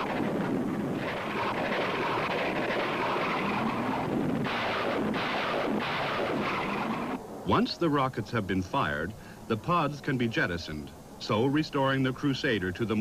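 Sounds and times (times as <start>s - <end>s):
jet engine rushing: 0.0s - 13.0s.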